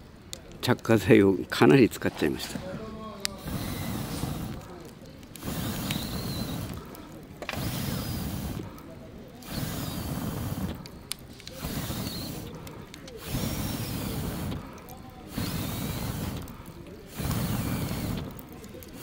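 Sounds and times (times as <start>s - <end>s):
burning wood crackling: 0.0s - 19.0s
puffs of air into fire: 2.2s - 19.0s.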